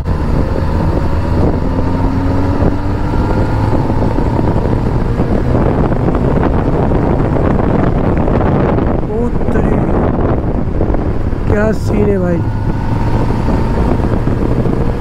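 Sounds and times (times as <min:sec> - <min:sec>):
motorcycle engine accelerating: 0:00.0 - 0:15.0
wind rush on microphone: 0:00.0 - 0:15.0.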